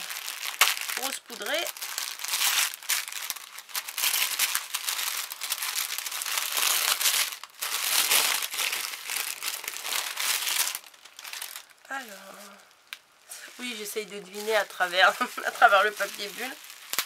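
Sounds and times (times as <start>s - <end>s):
wrapping paper crinkling: 0.0s - 17.0s.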